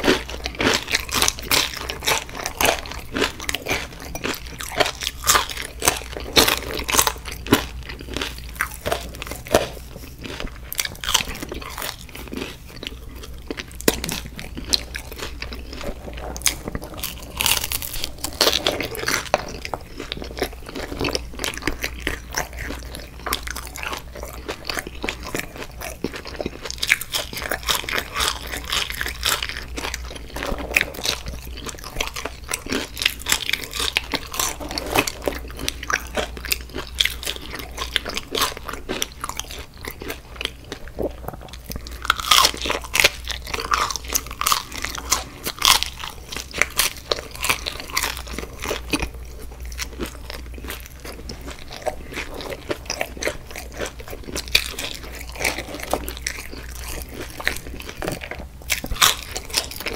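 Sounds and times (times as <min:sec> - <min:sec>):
crunchy chewing: 0:00.0 - 0:59.9
wet mouth sounds: 0:00.0 - 0:59.9.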